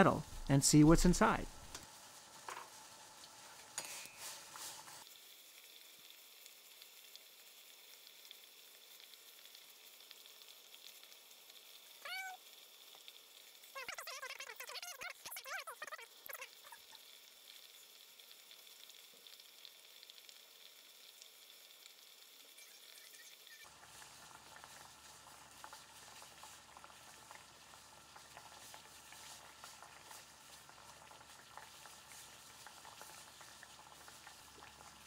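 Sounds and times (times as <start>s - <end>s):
water boiling in a saucepan: 0.0s - 35.0s.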